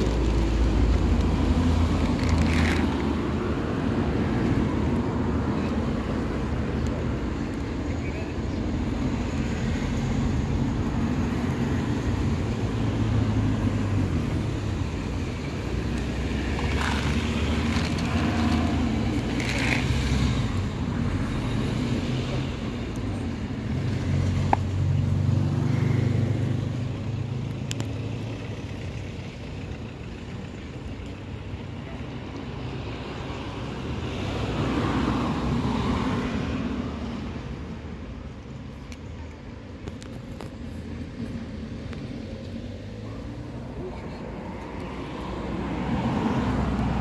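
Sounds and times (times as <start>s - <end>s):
road traffic rumble: 0.0s - 47.0s
vehicles passing: 0.0s - 47.0s.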